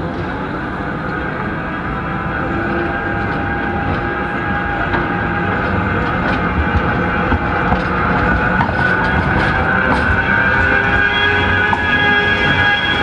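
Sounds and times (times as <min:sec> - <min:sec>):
tram approaching: 0:00.0 - 0:13.0.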